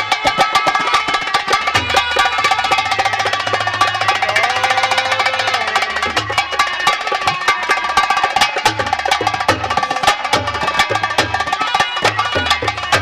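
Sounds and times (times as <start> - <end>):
rapid drum beats: 0.0 - 13.0.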